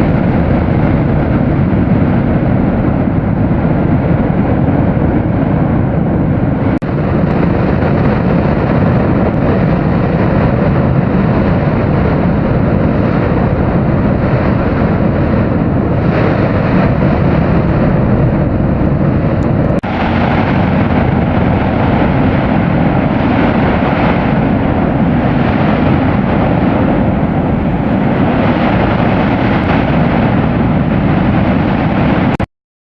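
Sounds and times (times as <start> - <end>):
volcanic crater roaring: 0.0 - 32.5.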